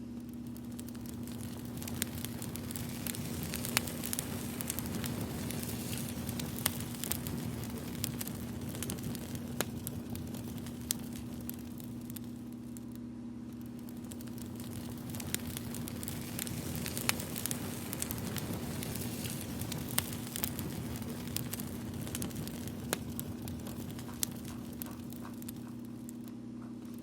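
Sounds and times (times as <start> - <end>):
campfire crackling: 0.1 - 27.0.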